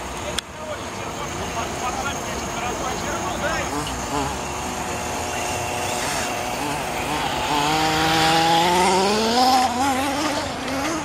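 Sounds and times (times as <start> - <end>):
model car engine revving: 0.0 - 11.0.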